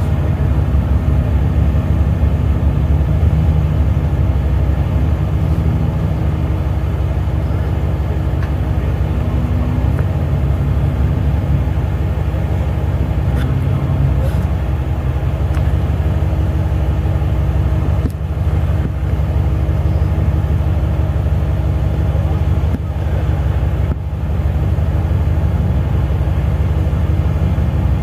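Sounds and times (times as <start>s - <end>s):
engine running at low revs: 0.0s - 28.0s.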